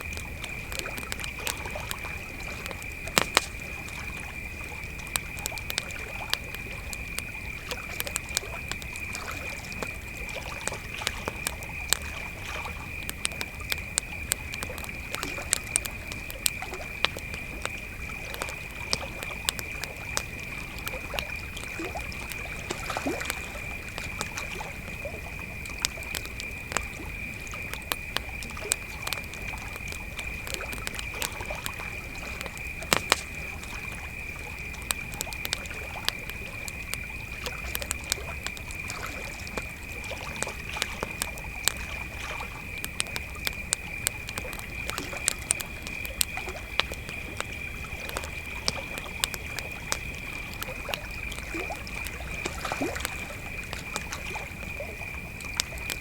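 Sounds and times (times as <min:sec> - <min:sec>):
campfire crackling and popping: 0:00.0 - 0:56.0
crickets trilling: 0:00.0 - 0:56.0.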